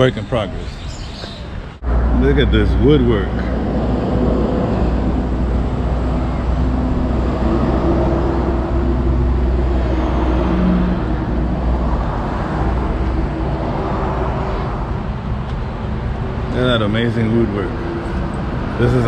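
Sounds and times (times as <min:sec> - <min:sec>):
road traffic rumble: 0:00.0 - 0:19.0
vehicle engine drone: 0:00.0 - 0:19.0.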